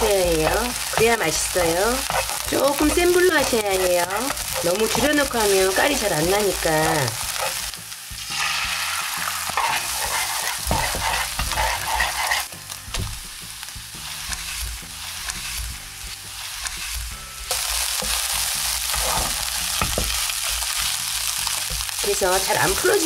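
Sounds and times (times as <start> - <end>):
eggs and rice sizzling in a pan: 0.0 - 23.0
spatula scraping and knocking pan: 0.0 - 23.0.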